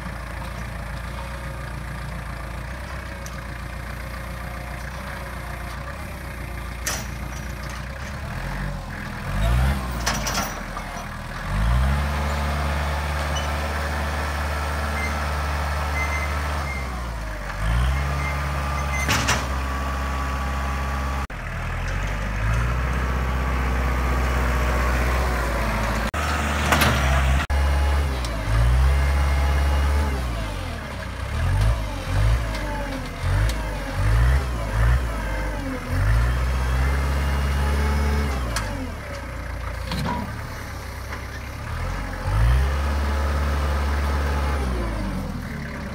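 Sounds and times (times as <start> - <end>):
tractor diesel engine revving: 0.0 - 45.9.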